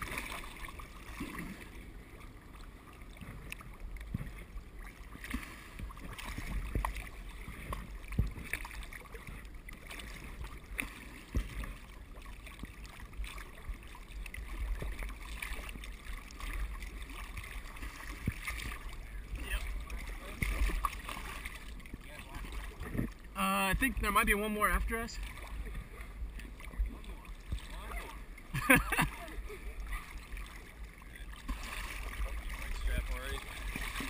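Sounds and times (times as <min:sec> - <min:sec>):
sharp knocks and splashes: 0:00.0 - 0:01.8, 0:03.0 - 0:34.0
water sloshing and lapping: 0:00.0 - 0:34.0.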